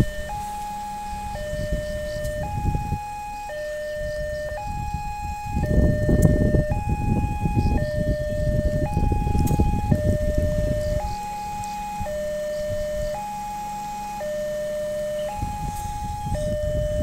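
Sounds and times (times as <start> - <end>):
level crossing two-tone siren: 0.0 - 17.0
low rumbling: 0.0 - 17.0.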